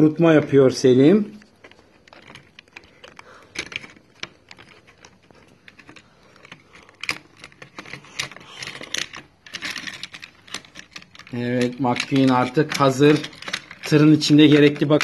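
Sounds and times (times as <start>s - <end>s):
plastic toy parts clicking: 1.4s - 15.0s.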